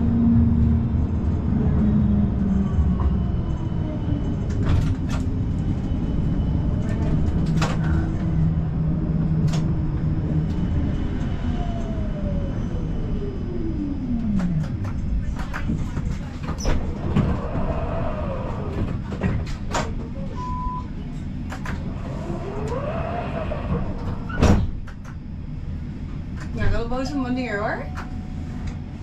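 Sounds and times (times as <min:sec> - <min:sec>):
tram motor whine: 0:00.0 - 0:29.0.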